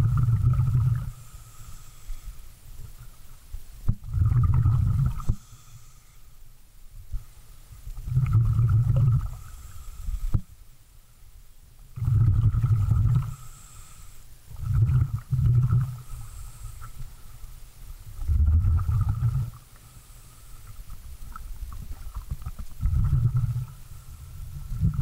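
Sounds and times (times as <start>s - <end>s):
underwater air bubbling: 0.0s - 2.3s, 3.9s - 5.9s, 7.9s - 10.5s, 11.9s - 25.0s.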